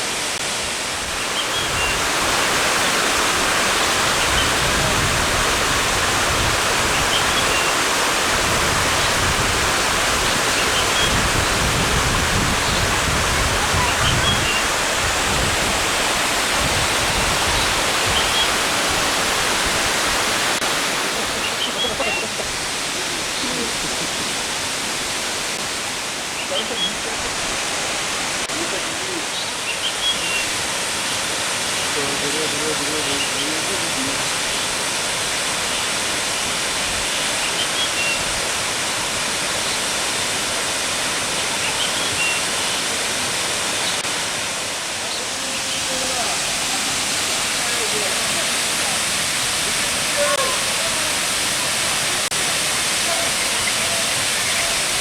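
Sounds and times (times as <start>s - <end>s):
waterfall rushing into pool: 0.0s - 55.0s.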